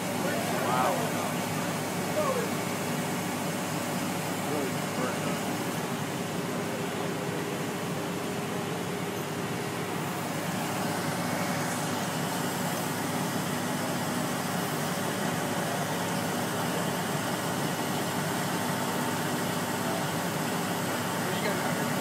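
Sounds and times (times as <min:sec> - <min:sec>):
fire engines idling: 0:00.0 - 0:22.0.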